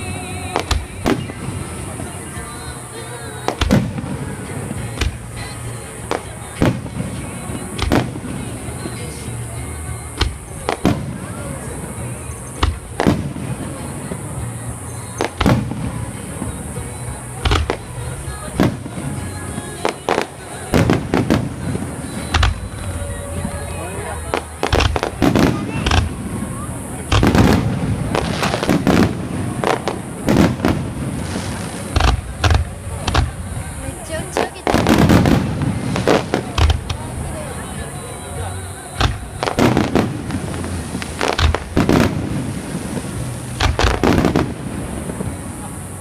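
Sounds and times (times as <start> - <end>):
fireworks booming: 0.0 - 46.0.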